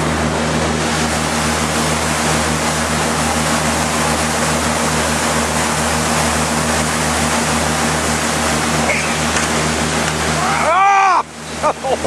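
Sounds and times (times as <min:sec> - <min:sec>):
wind and water rushing: 0:00.0 - 0:11.5
motorboat engine drone: 0:00.0 - 0:12.0.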